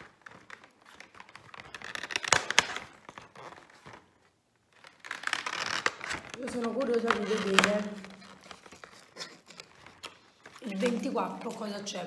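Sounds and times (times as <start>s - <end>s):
cardboard crinkling and rustling: 0.0s - 12.0s.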